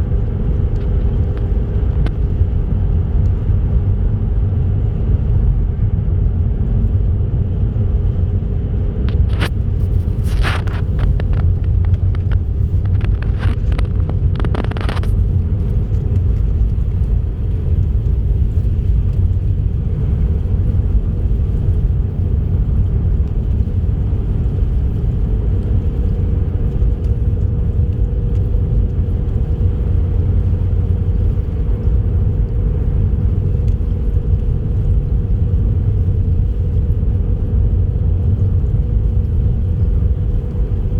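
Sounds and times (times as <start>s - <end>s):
car driving on highway: 0.0s - 40.9s
sharp clicks and crackles: 0.2s - 3.8s, 8.8s - 40.9s.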